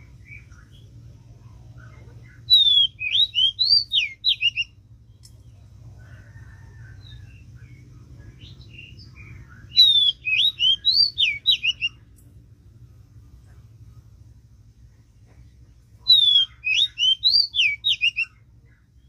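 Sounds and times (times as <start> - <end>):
faint bird calls: 0.0 - 12.2, 14.9 - 19.0
songbird whistled song: 0.0 - 12.3, 15.0 - 19.0.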